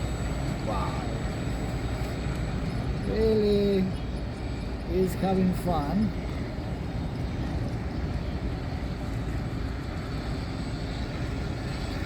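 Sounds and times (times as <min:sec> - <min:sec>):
steady motor drone: 0:00.0 - 0:12.0.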